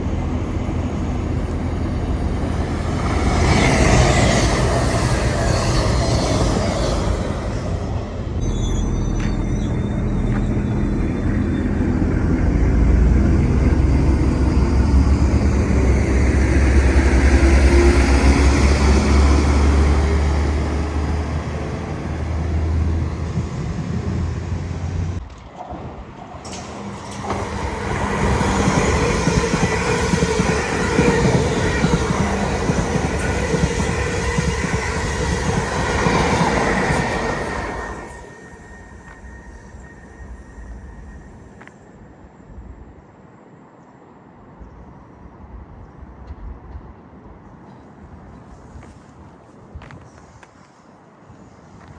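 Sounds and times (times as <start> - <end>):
train passing: 0.0 - 51.9.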